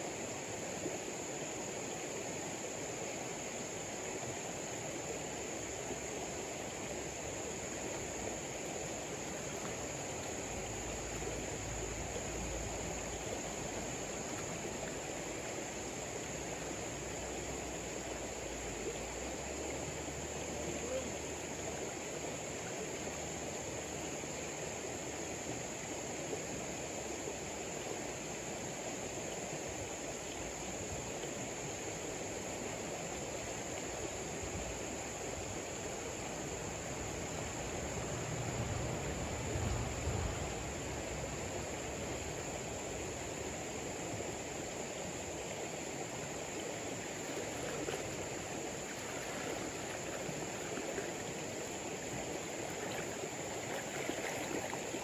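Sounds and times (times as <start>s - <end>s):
high insect drone: 0.0s - 55.0s
river water rushing: 0.0s - 55.0s.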